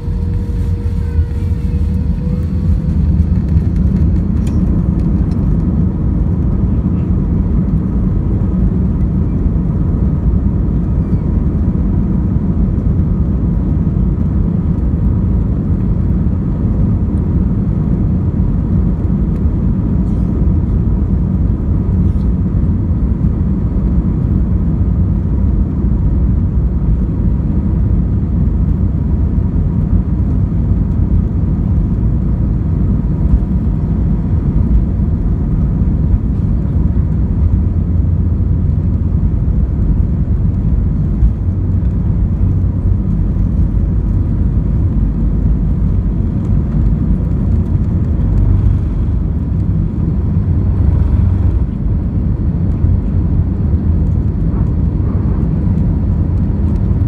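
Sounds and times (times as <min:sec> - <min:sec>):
faint engine whine: 0:00.0 - 0:57.0
jet engines deep rumble: 0:00.0 - 0:57.0.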